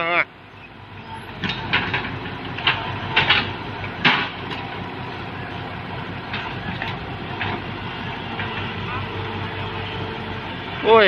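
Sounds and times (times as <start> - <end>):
diesel engine under load: 0.0 - 11.0
steel tracks clanking and squealing: 0.0 - 11.0.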